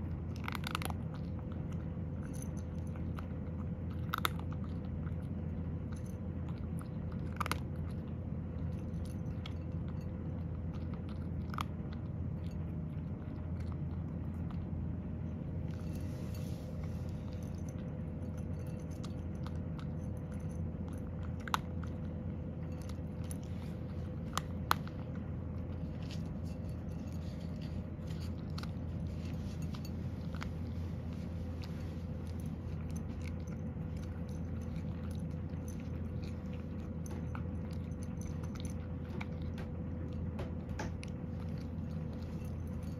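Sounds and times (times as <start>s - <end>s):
cat chewing dry kibble: 0.0s - 42.9s
steady low hum: 0.0s - 42.9s.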